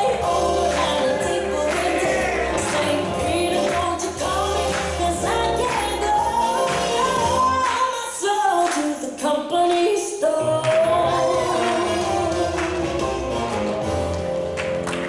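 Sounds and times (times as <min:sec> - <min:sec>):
foxtrot music with singing: 0:00.0 - 0:15.0.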